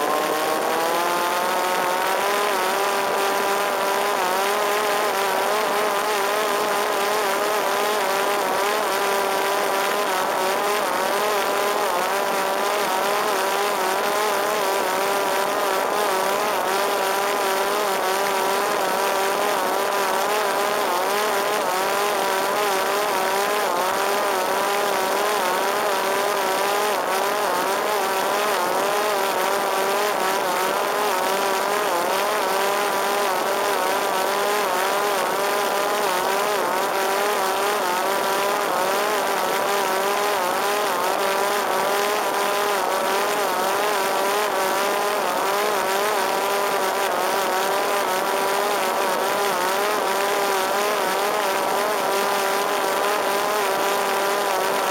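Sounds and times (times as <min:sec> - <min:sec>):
drone motor high whine: 0:00.0 - 0:54.9.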